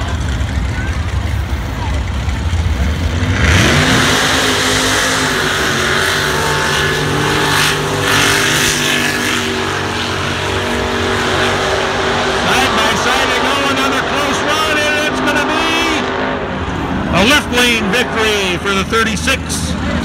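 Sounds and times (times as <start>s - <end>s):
truck engines revving at full throttle: 0.0s - 20.0s.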